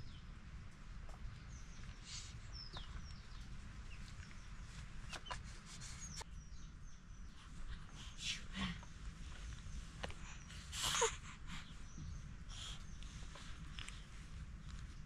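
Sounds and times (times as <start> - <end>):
birds chirping: 0.0 - 14.2
low outdoor rumble: 0.0 - 15.0.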